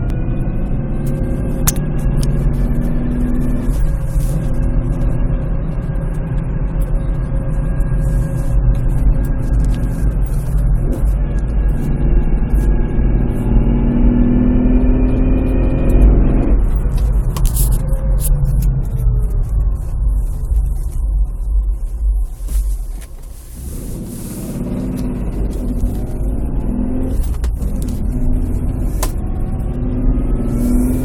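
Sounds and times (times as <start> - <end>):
engine rumble: 0.0 - 31.0
transmission whining: 0.0 - 31.0.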